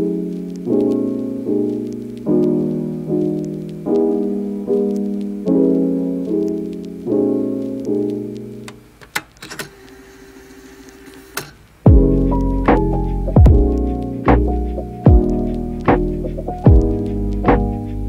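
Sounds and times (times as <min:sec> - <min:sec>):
soft piano chords: 0:00.0 - 0:09.0, 0:11.9 - 0:18.0.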